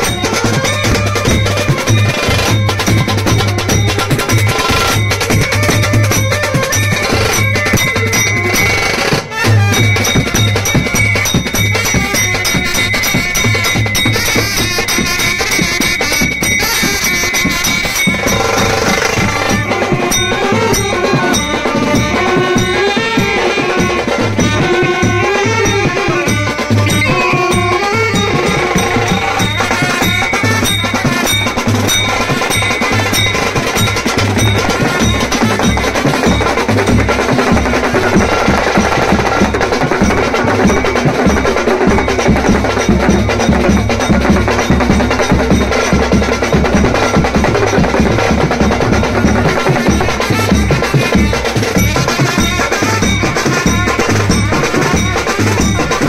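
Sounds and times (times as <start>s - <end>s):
saxophones playing melody: 0.0s - 40.5s, 48.2s - 56.0s
drums beaten with mallets: 0.0s - 56.0s
hand drum shaken: 0.0s - 56.0s.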